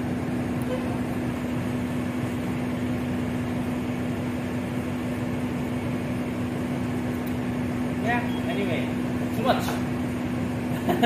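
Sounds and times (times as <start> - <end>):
machinery and ventilation hum: 0.0 - 11.0.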